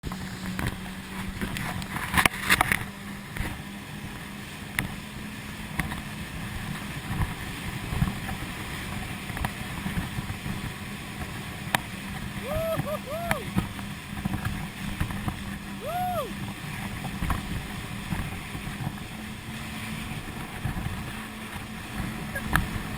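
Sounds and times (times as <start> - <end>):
jet-ski engine humming: 0.1 - 22.9.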